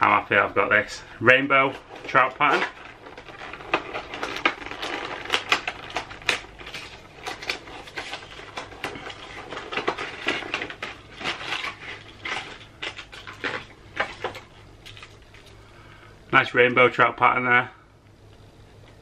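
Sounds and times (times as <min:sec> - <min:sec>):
plastic packaging crinkling: 0:00.0 - 0:15.8.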